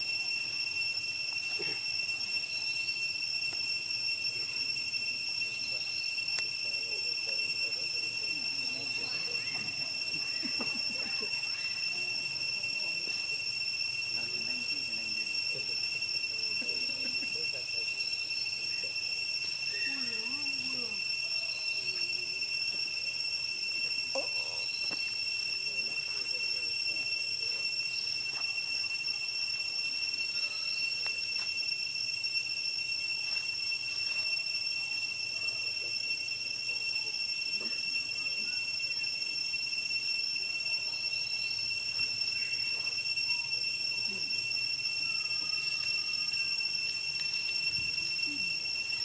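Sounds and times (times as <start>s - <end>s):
high-pitched insect drone: 0.0s - 49.0s.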